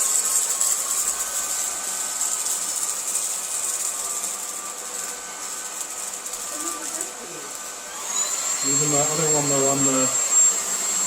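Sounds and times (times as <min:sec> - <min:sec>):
cordless vacuum cleaner running: 0:00.0 - 0:11.0.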